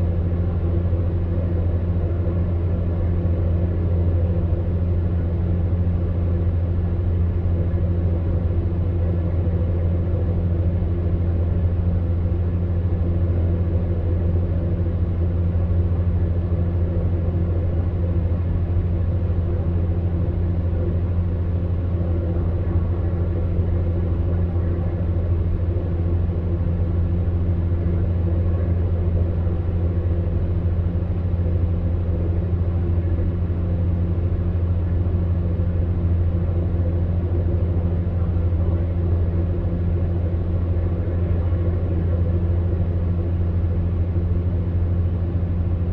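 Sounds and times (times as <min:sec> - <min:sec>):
fan heater humming: 0:00.0 - 0:45.9.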